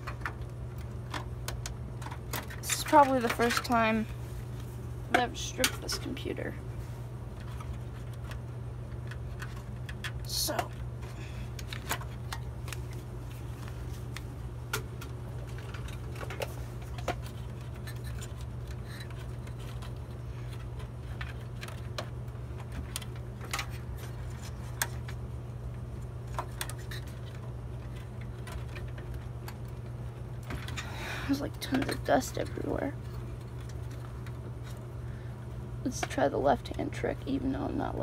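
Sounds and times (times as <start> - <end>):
clicks and rattles of cables: 0.0 - 4.0, 4.6 - 6.5, 7.3 - 34.9
steady low hum: 0.0 - 38.0.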